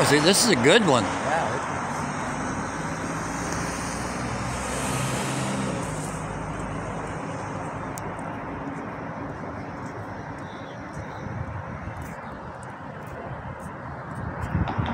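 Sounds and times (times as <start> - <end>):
car passing: 0.0 - 14.9
road traffic noise: 0.0 - 14.9.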